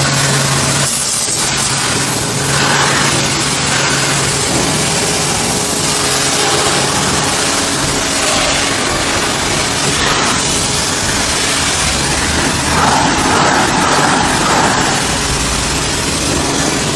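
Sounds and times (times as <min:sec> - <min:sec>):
pressure washer motor hum: 0:00.0 - 0:16.9
water jet hissing: 0:00.0 - 0:16.9.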